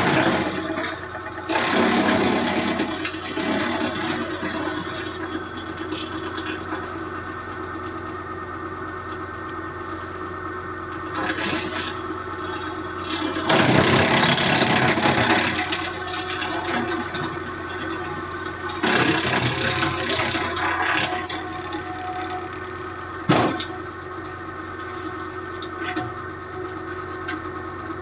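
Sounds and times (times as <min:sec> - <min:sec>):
wood chipper engine running: 0:00.0 - 0:28.0.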